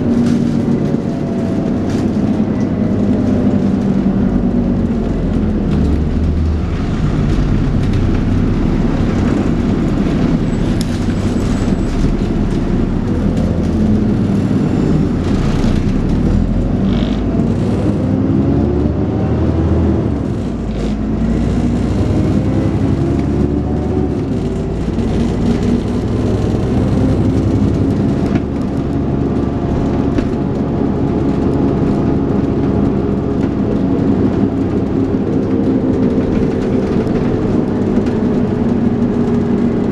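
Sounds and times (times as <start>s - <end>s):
bus engine whining under acceleration: 0.0s - 39.9s.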